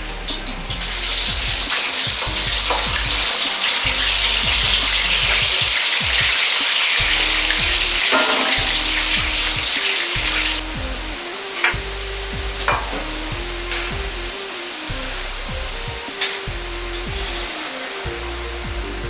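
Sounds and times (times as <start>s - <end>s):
potatoes sizzling in hot oil: 0.0s - 19.0s.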